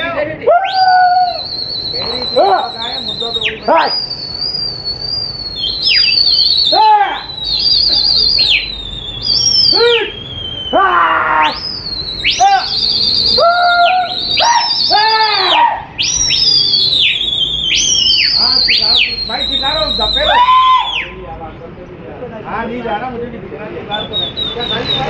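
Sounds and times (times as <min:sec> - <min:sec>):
high held whistle: 0:00.6 - 0:21.2, 0:23.9 - 0:25.0
swooping whistles: 0:00.6 - 0:21.2, 0:23.9 - 0:25.0.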